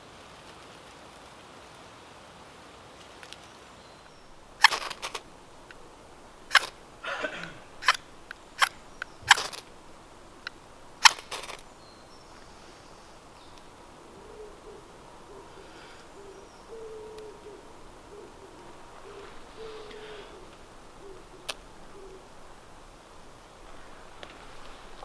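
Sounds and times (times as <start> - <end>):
bird call of short notes: 4.1 - 25.0
sharp cracks: 4.1 - 25.0.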